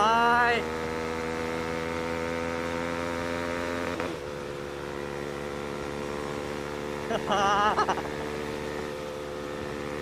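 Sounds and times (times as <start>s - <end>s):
motorcycle engine while riding: 0.0s - 10.0s.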